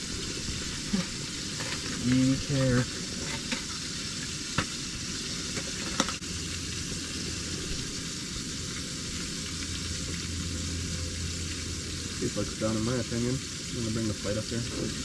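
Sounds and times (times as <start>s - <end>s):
fish fillets sizzling in oil: 0.0s - 15.0s.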